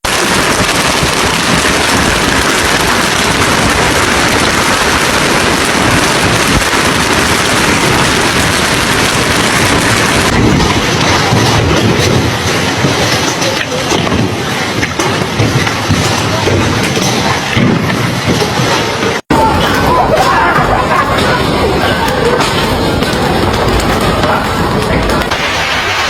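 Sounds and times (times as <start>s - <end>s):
heavy hail pelting: 0.0s - 26.0s.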